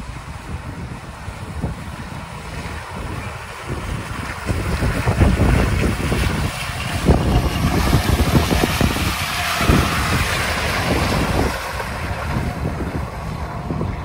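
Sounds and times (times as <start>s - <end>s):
car engine working under load: 0.0s - 14.0s
tyres churning wet mud: 0.0s - 14.0s
wind buffeting microphone: 0.0s - 14.0s.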